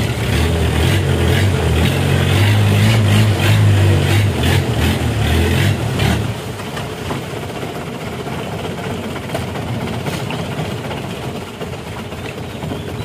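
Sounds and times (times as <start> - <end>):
boat engine running: 0.0 - 13.0
water rushing along hull: 0.0 - 13.0.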